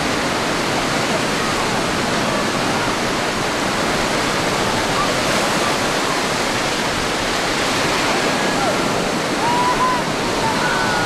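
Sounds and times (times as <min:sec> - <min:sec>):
surf breaking on a beach: 0:00.0 - 0:11.0.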